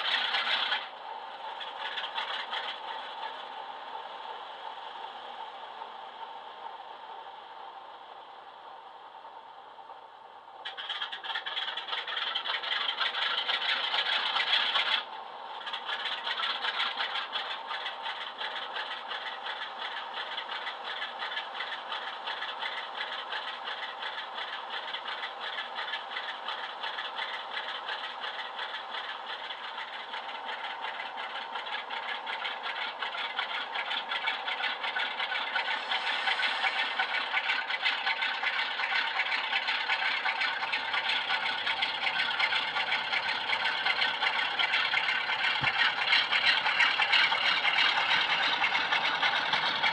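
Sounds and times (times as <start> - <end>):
diesel engine sound from speaker: 0.0 - 49.9.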